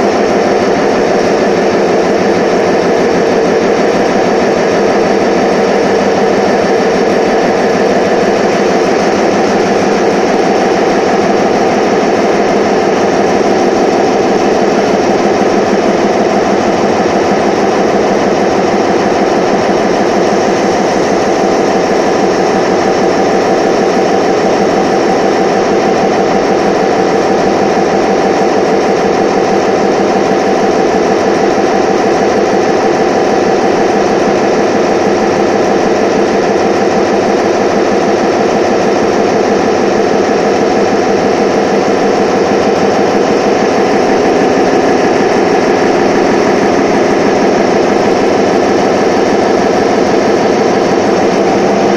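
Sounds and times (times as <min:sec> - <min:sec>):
machine drone with fast rattle: 0:00.0 - 0:51.9.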